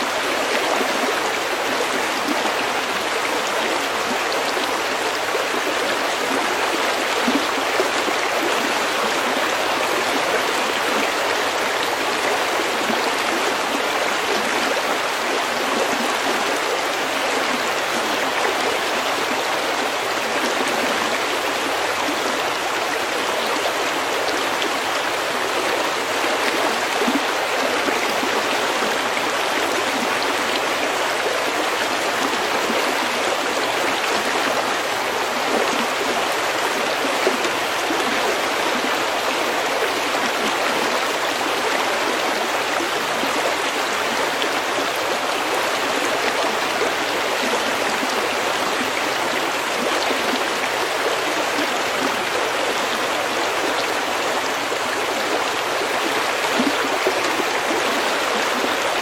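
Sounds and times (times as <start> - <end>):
stream flowing over pebbles: 0.0 - 59.0.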